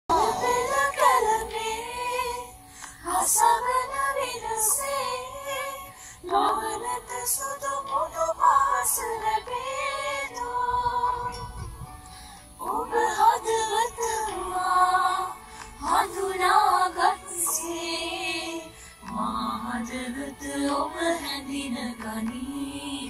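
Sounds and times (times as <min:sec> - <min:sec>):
women singing together: 0:00.1 - 0:11.6, 0:12.6 - 0:23.0.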